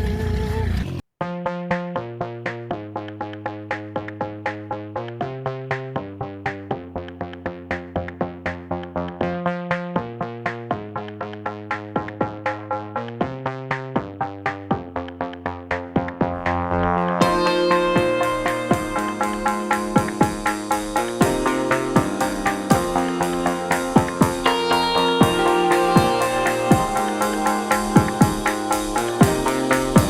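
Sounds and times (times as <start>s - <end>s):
electronic music beat: 1.2s - 30.0s
held synthesizer chords: 1.2s - 30.0s.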